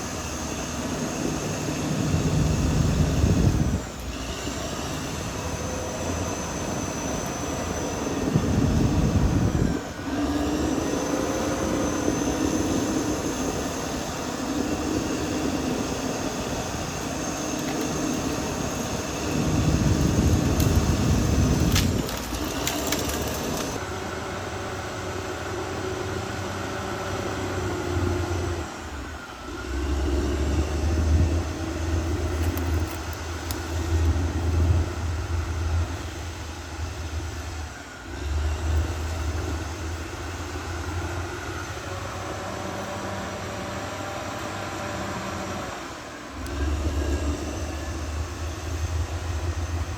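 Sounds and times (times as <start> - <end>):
bulldozer diesel engine: 0.0 - 49.9.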